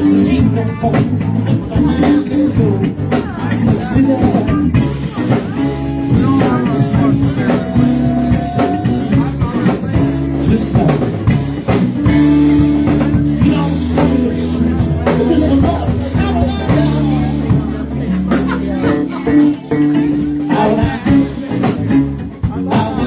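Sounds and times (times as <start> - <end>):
drum kit beat: 0.0 - 23.0
person singing: 0.0 - 23.0
rock band playing: 0.0 - 23.0.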